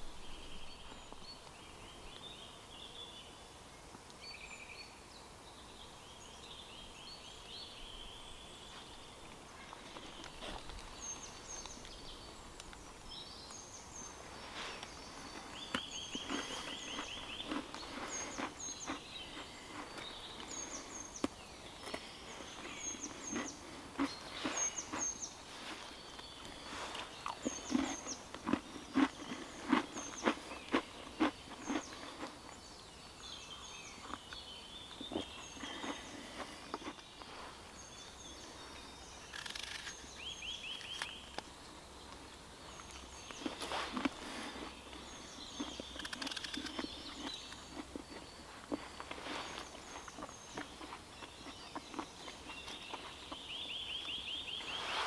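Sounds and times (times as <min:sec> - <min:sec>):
birds double chirps: 0:05.7 - 0:55.0
crackles in dry leaf litter: 0:07.4 - 0:55.0.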